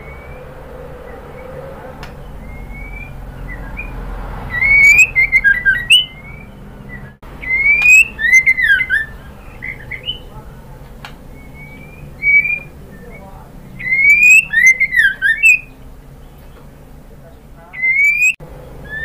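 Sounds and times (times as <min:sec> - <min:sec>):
bird whistling calls: 0:00.0 - 0:19.0.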